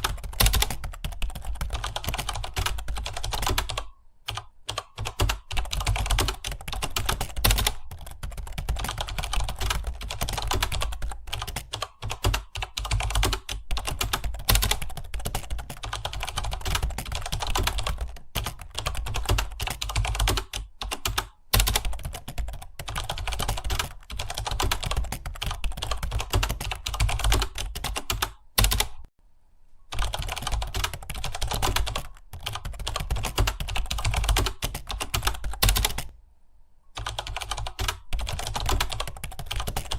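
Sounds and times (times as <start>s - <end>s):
fast typing on keyboard: 0.0s - 29.1s, 29.9s - 36.1s, 37.0s - 39.9s.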